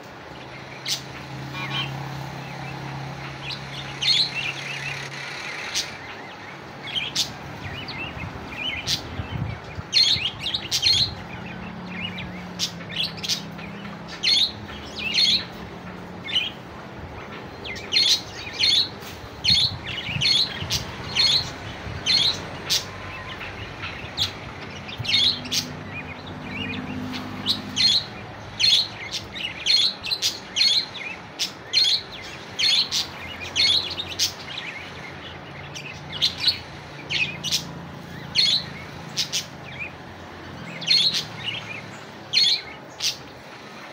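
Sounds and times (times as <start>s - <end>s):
budgerigars chirping: 0.8s - 2.0s, 3.2s - 15.6s, 16.2s - 16.6s, 17.5s - 40.0s, 40.7s - 43.8s.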